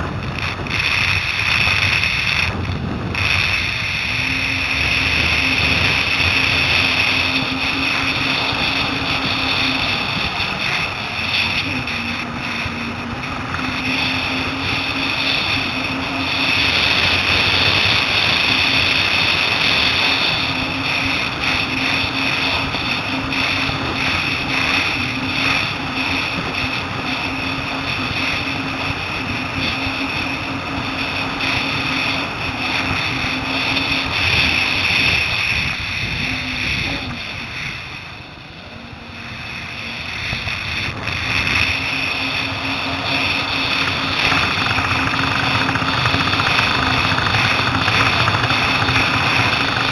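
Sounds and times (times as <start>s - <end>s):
jet ski engine running: 0.0s - 49.9s.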